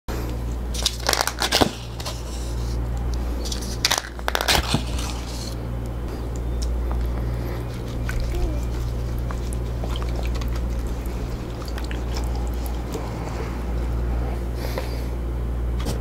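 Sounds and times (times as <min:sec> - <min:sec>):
steady low hum: 0:00.1 - 0:16.0
crunching crinkling noises: 0:00.2 - 0:15.0.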